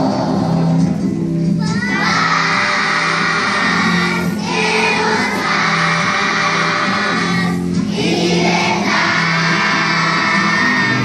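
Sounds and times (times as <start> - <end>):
children's choir singing: 0.0 - 1.0, 1.8 - 11.0.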